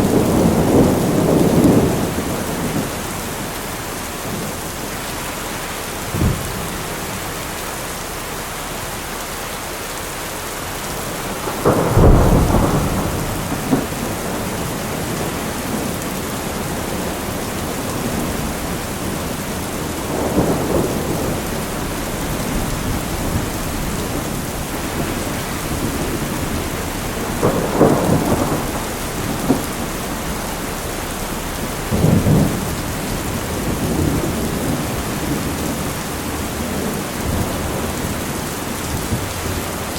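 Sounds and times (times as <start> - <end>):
thunder rumbling: 0.0 - 7.6, 10.4 - 39.9
heavy rain hiss: 0.0 - 39.9.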